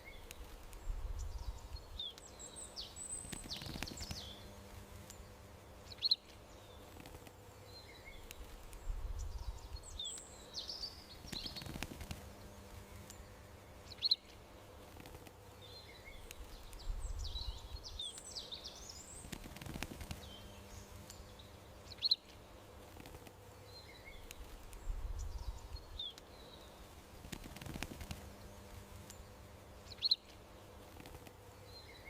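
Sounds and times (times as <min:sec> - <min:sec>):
faint steady hum: 0:00.0 - 0:32.0
songbirds chirping: 0:00.0 - 0:32.0.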